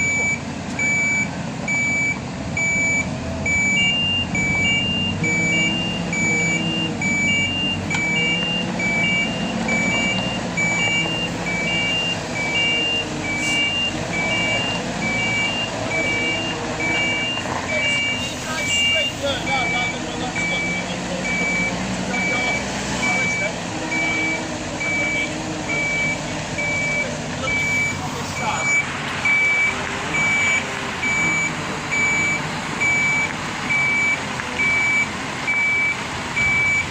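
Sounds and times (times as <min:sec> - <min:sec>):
diesel truck engine running: 0:00.0 - 0:36.9
truck reversing alarms beeping: 0:00.0 - 0:36.9.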